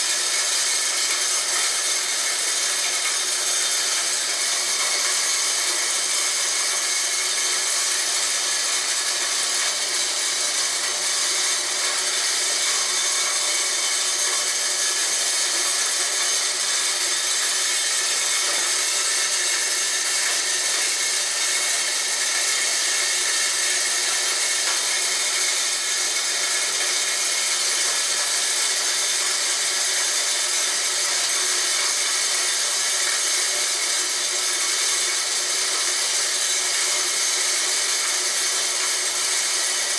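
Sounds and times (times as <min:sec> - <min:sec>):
corn grinder grinding hiss: 0:00.0 - 0:39.9.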